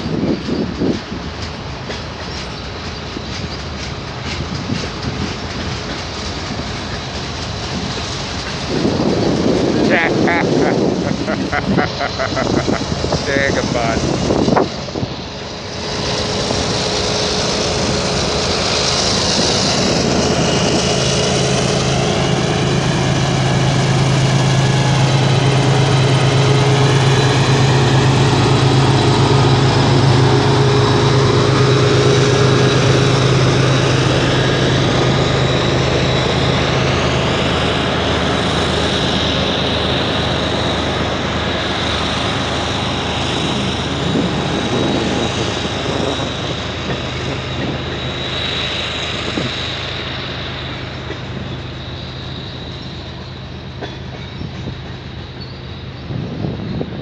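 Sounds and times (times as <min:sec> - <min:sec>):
freight train wheels rumbling on rails: 0:00.0 - 0:57.0
low drone: 0:07.8 - 0:57.0.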